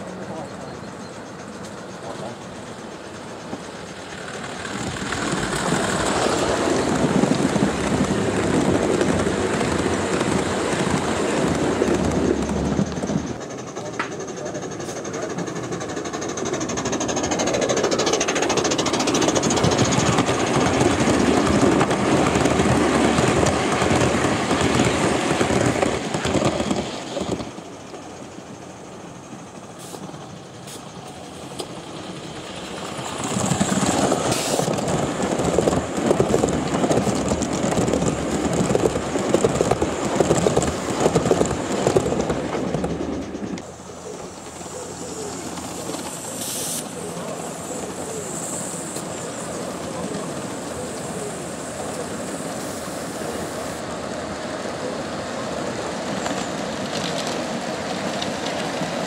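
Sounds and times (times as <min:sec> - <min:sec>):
model train clattering on track: 0:01.4 - 0:28.0, 0:29.8 - 0:43.7, 0:44.5 - 0:53.8, 0:56.0 - 0:59.0.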